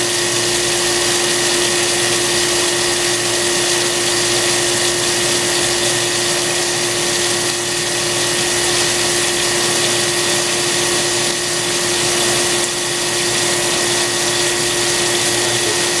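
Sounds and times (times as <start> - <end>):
high grinder whine: 0.0 - 16.0
machine hum: 0.0 - 16.0.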